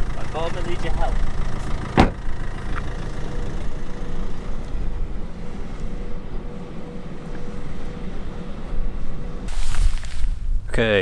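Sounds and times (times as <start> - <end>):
car engine and road noise: 0.0 - 11.0
faint constant whine: 0.0 - 11.0.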